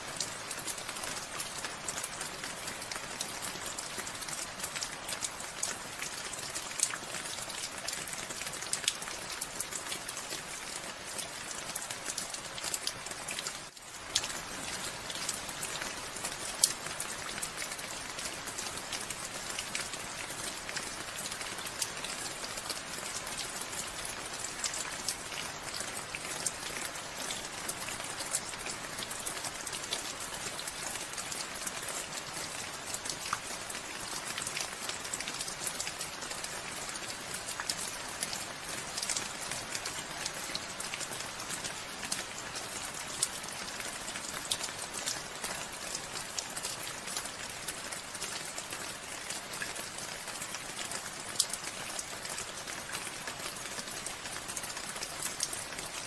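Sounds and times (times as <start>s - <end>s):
raindrops pattering: 0.0s - 56.0s
steady rain falling: 0.0s - 56.0s.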